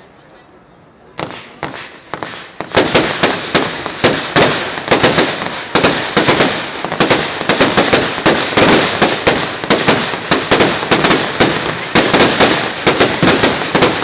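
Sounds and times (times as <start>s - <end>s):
fireworks bursting and crackling: 1.2s - 14.0s.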